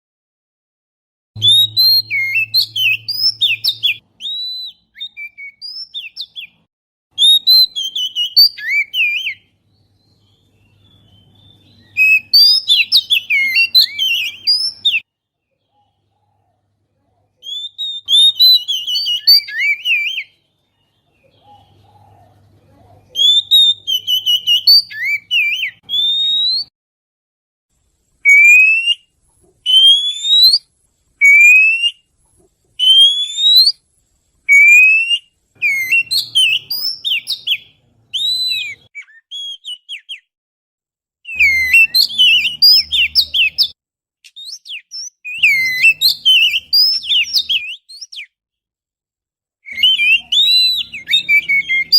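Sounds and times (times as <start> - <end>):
bird singing whistled trills: 1.4 - 6.6, 7.2 - 16.0, 17.4 - 22.2, 23.1 - 26.7, 28.2 - 32.1, 32.8 - 33.8, 34.5 - 40.3, 41.3 - 48.4, 49.6 - 51.9.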